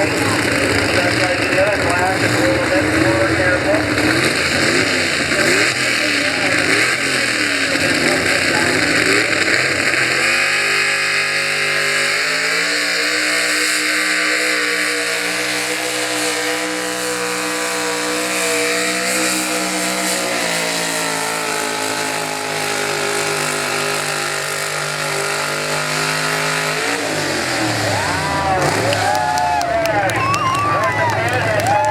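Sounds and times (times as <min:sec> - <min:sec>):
truck engine at high revs: 0:00.0 - 0:31.9.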